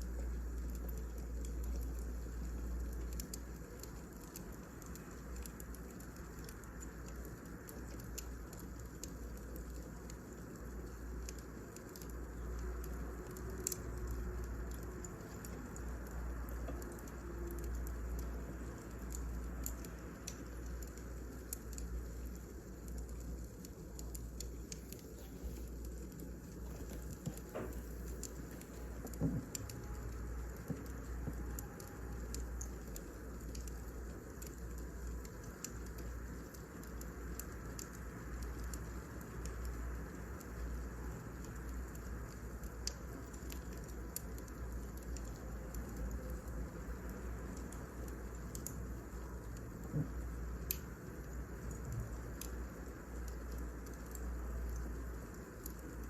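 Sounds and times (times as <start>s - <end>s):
fire crackling and popping: 0.0s - 56.0s
wood fire rumbling: 0.0s - 56.0s.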